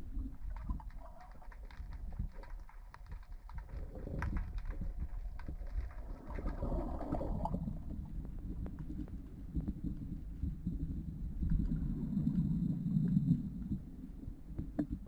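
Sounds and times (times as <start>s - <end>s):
underwater low rumble: 0.0s - 15.0s.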